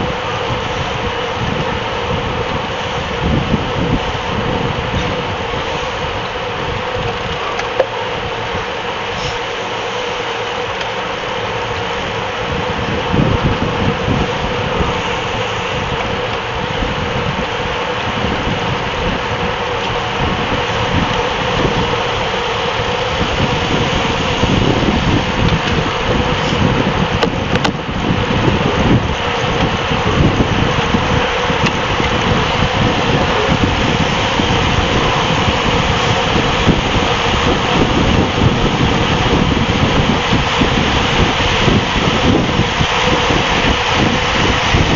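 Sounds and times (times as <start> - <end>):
wind and road rush: 0.0 - 44.9
wind buffeting microphone: 0.0 - 44.9.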